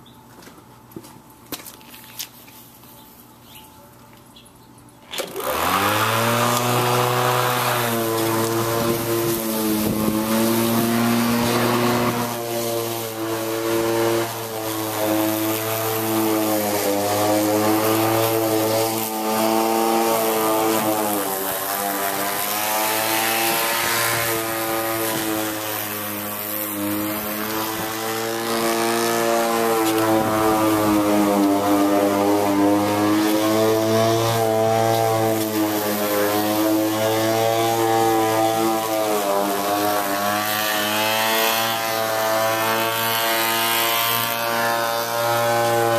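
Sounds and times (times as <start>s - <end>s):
electric lawn mower cutting grass: 5.1s - 45.9s.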